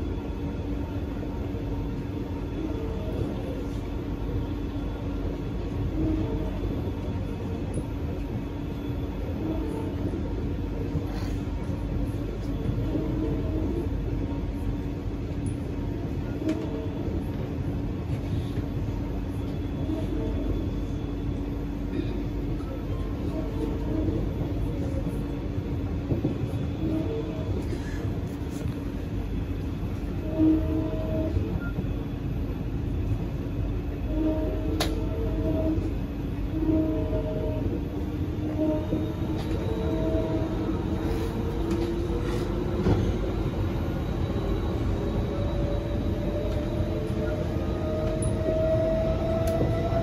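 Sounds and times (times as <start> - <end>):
train running noise with hum: 0.0 - 50.0.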